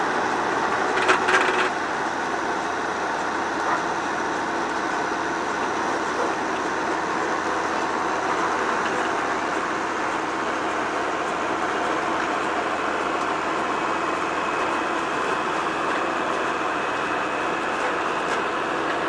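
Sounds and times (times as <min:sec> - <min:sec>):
harvest machinery running: 0:00.0 - 0:19.0.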